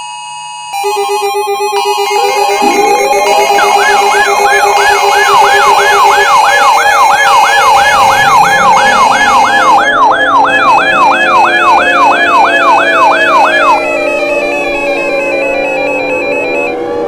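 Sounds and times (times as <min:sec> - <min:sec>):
rapid beeping tone: 0:00.8 - 0:16.8
electronic siren yelp and wail: 0:00.8 - 0:17.0.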